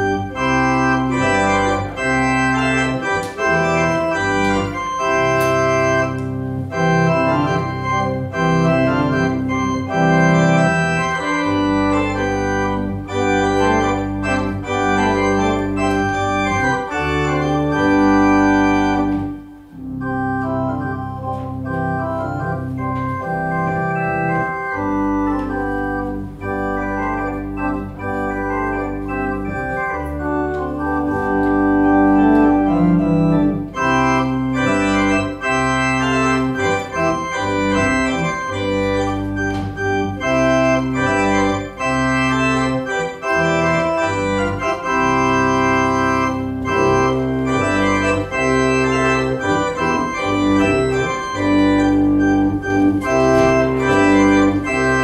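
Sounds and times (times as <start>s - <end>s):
organ playing chords: 0.0s - 55.0s.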